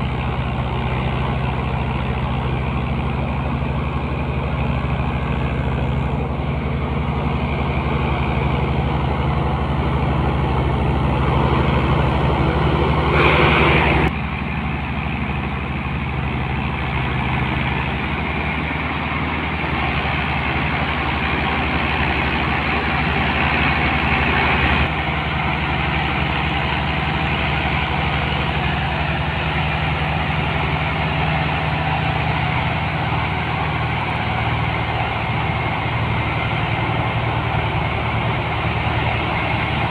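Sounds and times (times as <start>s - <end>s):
tractor engines droning under load: 0.0s - 39.9s.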